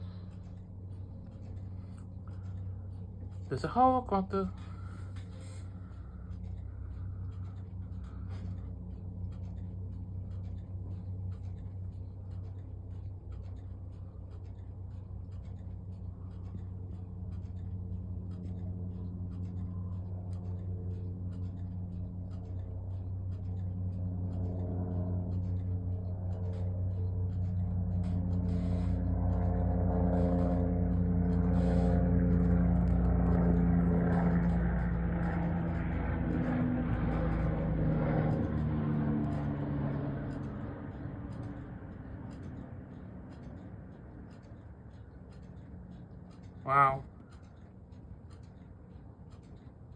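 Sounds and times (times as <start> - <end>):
helicopter drone: 0.0 - 49.9.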